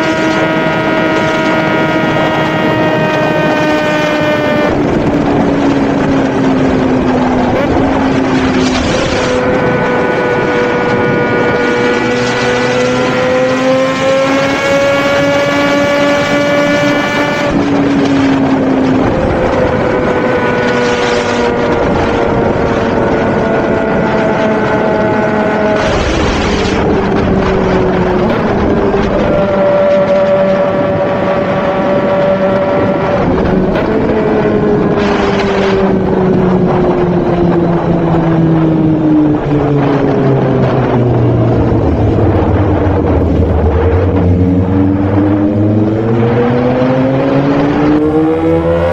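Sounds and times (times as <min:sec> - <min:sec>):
heavy wind noise: 0:00.0 - 0:48.9
motorcycle engine at high revs: 0:00.0 - 0:48.9.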